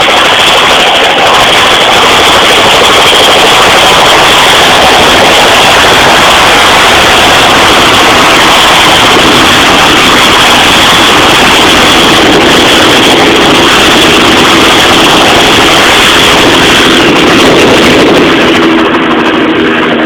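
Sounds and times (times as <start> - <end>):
helicopter rotor and engine: 0.0 - 20.0
high whine: 0.0 - 20.0.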